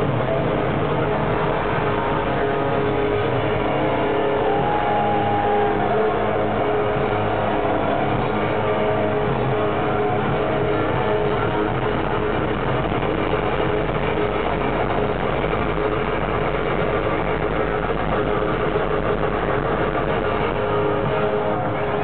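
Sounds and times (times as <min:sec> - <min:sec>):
crowd noise: 0:00.0 - 0:22.0
hard rock band playing live: 0:00.0 - 0:22.0.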